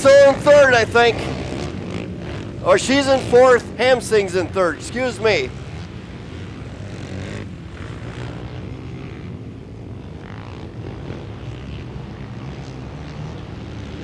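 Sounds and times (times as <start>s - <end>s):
racing motorcycles engine drone: 0.0s - 14.0s.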